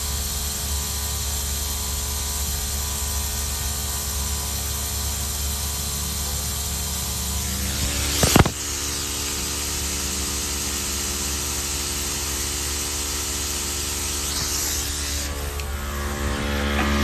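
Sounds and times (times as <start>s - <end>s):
hiss: 0.0s - 16.0s
mechanical hum: 0.0s - 17.0s.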